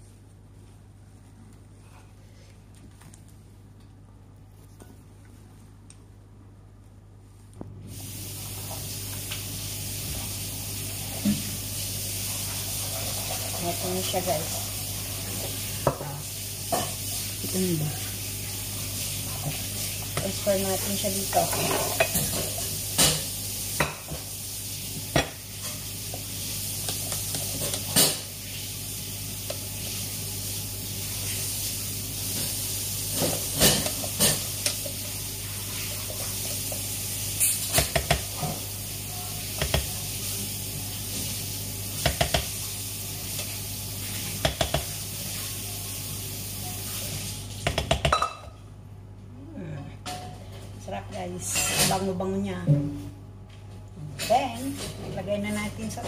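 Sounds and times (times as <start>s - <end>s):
steady hiss and low hum: 0.0s - 56.0s.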